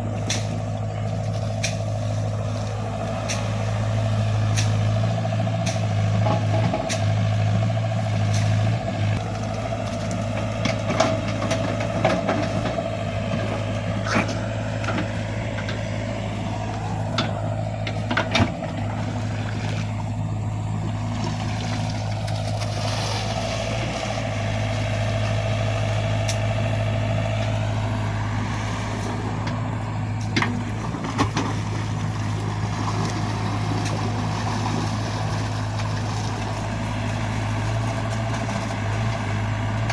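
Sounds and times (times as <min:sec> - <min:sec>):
excavator diesel engine with whine: 0:00.0 - 0:39.9.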